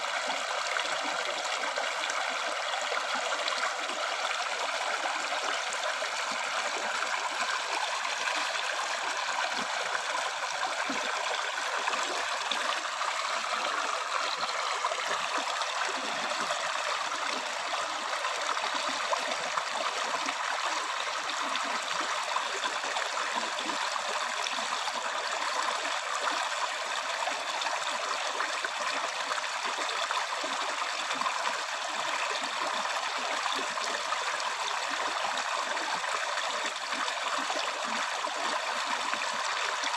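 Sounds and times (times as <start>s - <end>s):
stream water running over rocks: 0.0s - 39.9s.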